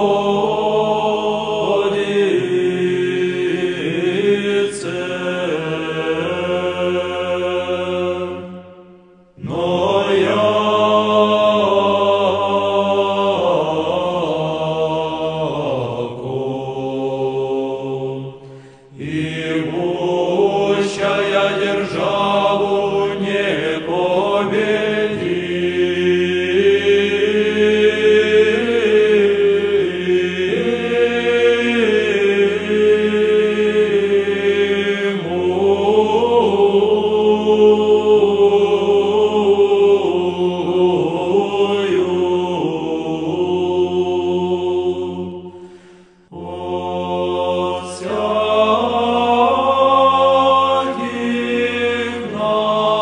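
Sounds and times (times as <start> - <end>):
male choir chanting a cappella: 0.0 - 53.0.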